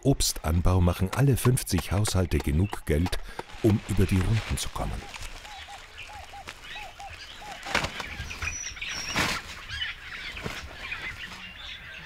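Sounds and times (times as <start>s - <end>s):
birdsong: 0.0s - 12.0s.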